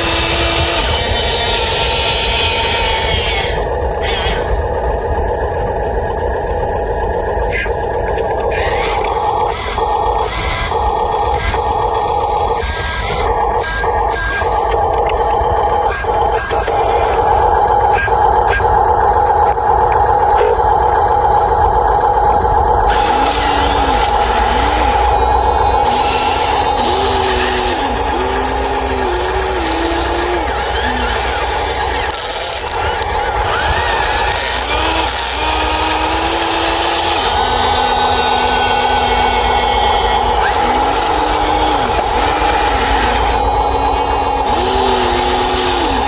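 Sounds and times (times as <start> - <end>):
scraping bursts: 0.0 - 46.0
toy electric motors whining: 0.0 - 46.0.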